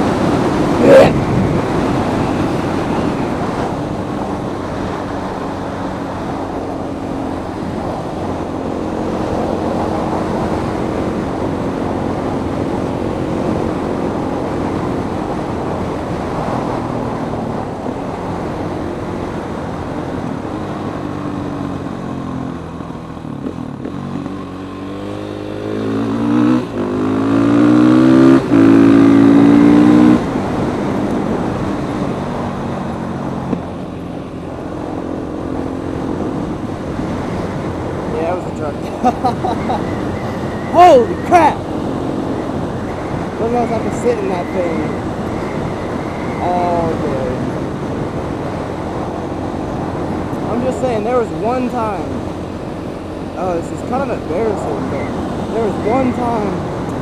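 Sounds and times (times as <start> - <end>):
motorcycle engine revving: 0.0 - 57.0
rushing wind: 0.0 - 57.0.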